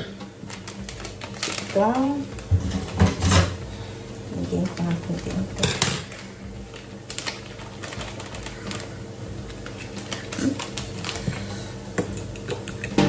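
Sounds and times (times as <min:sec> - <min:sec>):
soft background music: 0:00.0 - 0:13.0
plastic packet rustling: 0:00.3 - 0:12.9.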